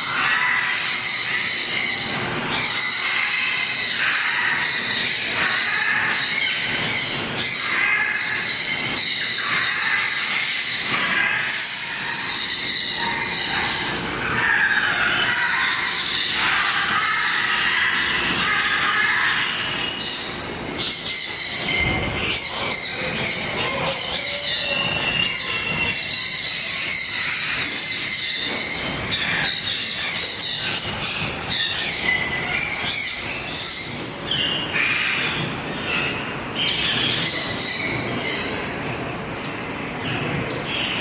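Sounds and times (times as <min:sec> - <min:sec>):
birds screeching: 0:00.0 - 0:41.0.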